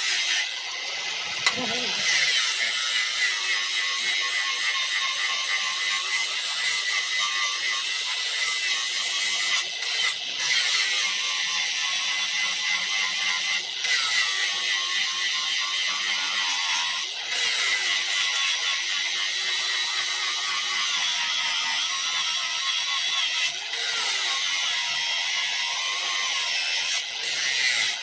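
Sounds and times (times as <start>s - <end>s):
angle grinder grinding metal: 0.0s - 28.0s
grinder motor whine: 0.0s - 28.0s.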